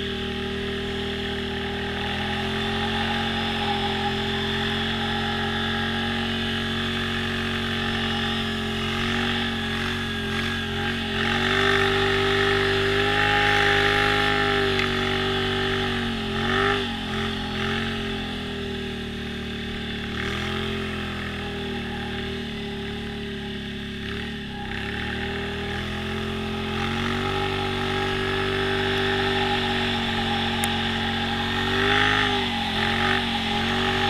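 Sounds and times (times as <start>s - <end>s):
quad bike engine revving: 0.0s - 34.0s.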